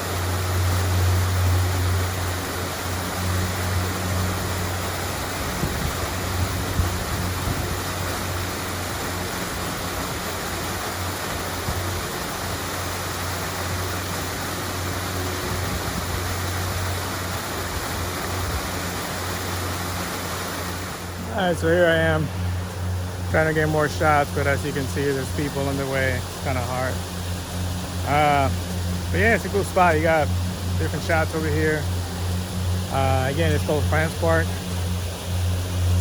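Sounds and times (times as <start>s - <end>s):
steady low hum: 0.0s - 36.0s
waterfall rushing: 0.0s - 36.0s.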